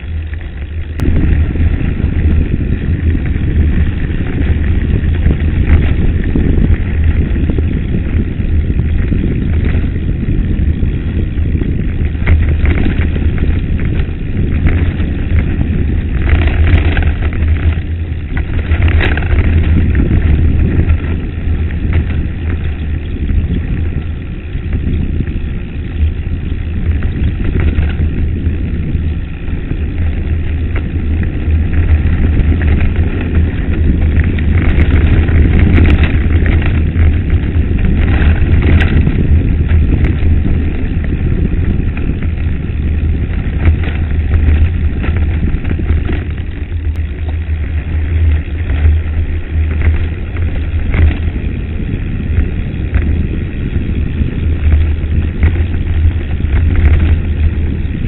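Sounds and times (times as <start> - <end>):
tyres rattling over gravel: 0.0 - 58.0
wind buffeting microphone: 0.0 - 58.0.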